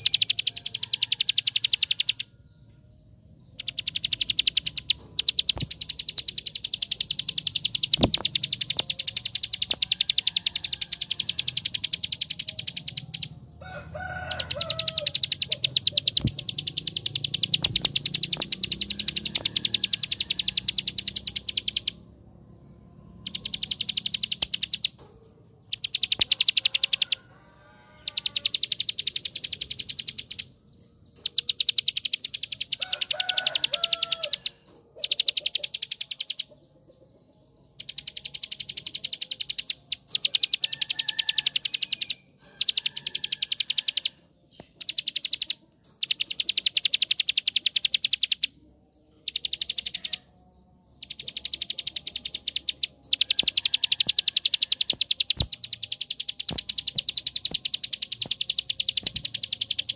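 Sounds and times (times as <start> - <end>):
bird rattling song: 0.0 - 36.6, 37.7 - 59.9.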